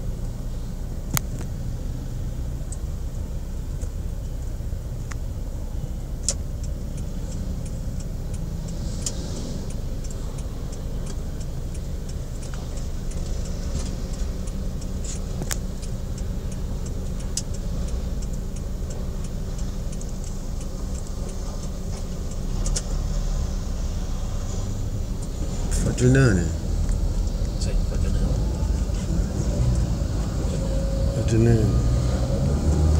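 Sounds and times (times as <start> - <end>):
traffic engines rumbling: 0.0 - 32.9
sharp ticks and clicks: 2.6 - 32.9.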